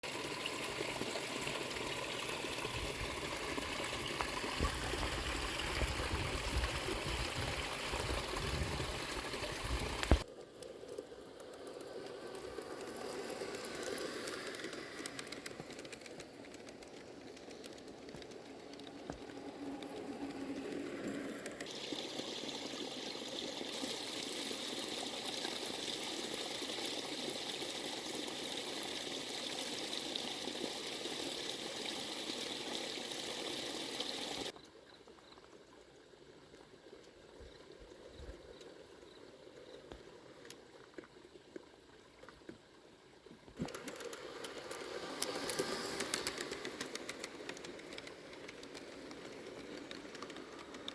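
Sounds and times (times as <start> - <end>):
water trickling and pouring: 0.0 - 50.9.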